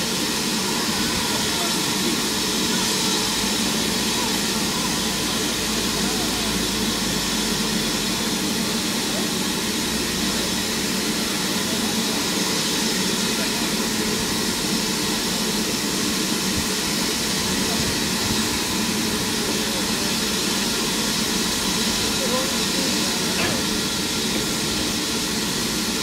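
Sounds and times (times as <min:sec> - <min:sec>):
steam venting hiss: 0:00.0 - 0:26.0.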